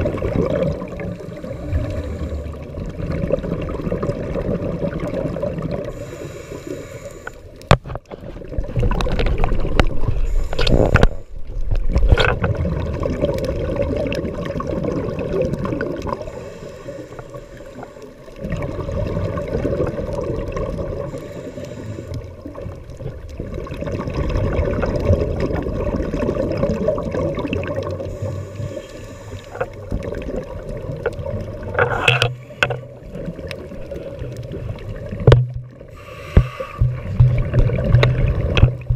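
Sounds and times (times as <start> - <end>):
regulator bubbles gurgling: 0.0 - 38.9
underwater rush of water: 0.0 - 38.9.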